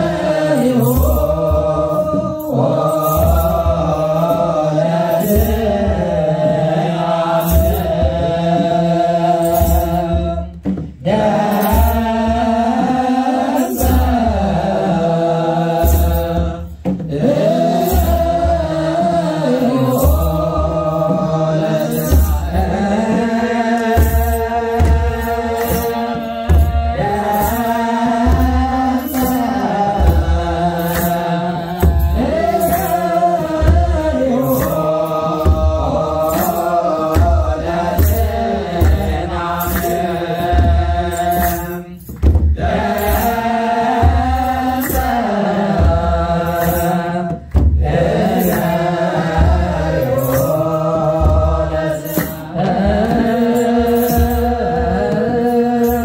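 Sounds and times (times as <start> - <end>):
steady drum beat: 0.0 - 56.0
voices singing a slow chant: 0.0 - 56.0.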